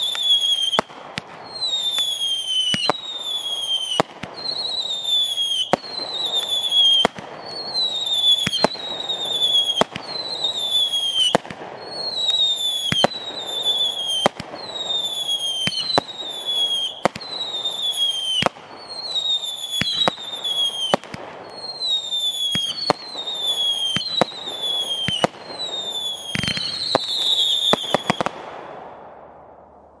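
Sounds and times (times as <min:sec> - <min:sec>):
firework whistle falling: 0:00.0 - 0:28.4
firework reports: 0:00.0 - 0:29.4.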